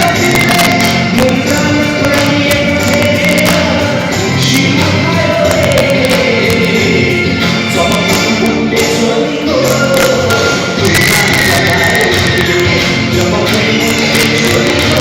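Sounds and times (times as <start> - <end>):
live band playing pop song: 0.0 - 15.0
person singing melody: 0.0 - 15.0.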